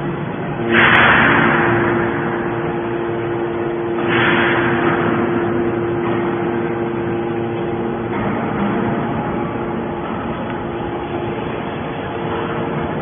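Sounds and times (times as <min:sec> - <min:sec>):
hydraulic pump motor hum: 0:00.0 - 0:13.0.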